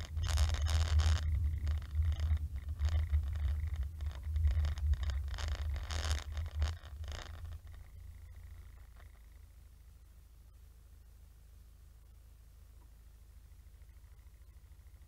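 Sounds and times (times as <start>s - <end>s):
scratchy hiss: 0.0s - 11.3s, 12.7s - 15.0s
car engine and road rumble: 0.0s - 15.0s.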